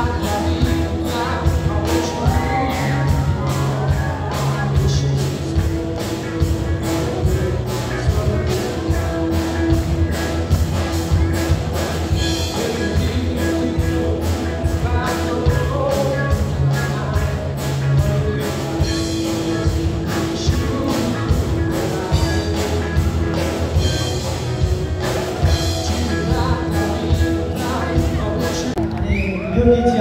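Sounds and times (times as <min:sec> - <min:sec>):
bass guitar: 0:00.0 - 0:30.0
drum kit beat: 0:00.0 - 0:30.0
electric guitars: 0:00.0 - 0:30.0.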